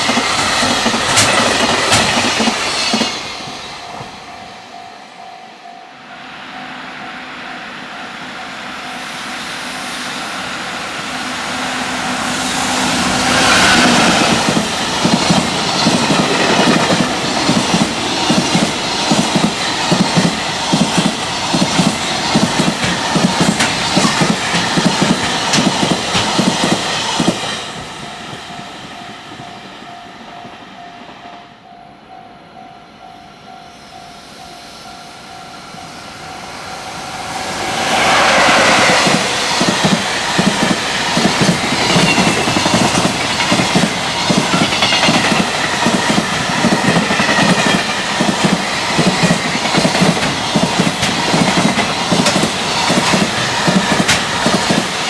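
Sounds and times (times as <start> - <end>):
freight train wheels clacking: 0.0 - 5.0, 8.9 - 32.0, 35.2 - 55.0.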